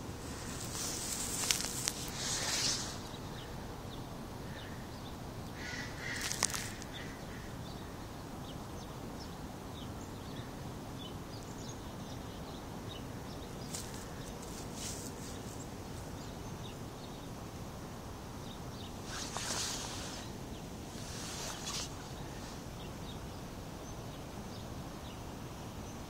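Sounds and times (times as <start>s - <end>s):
small birds chirping: 0.0s - 26.0s
steady low hiss: 0.0s - 26.0s.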